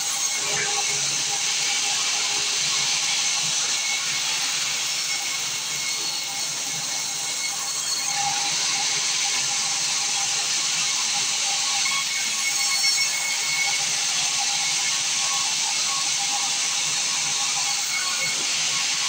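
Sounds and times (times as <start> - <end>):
saw cutting timber: 0.0 - 19.0.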